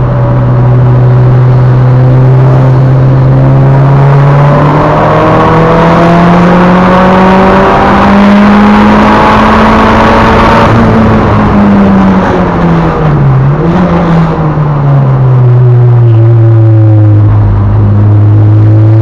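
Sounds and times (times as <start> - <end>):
car engine under load: 0.0 - 19.0
road and tyre noise: 0.0 - 19.0.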